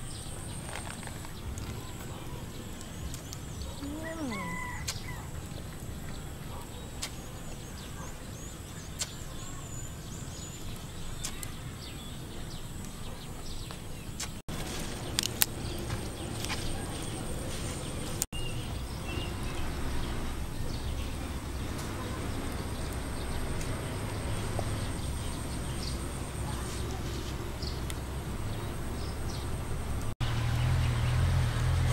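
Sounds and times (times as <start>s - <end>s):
bird chirps: 0.0s - 29.6s.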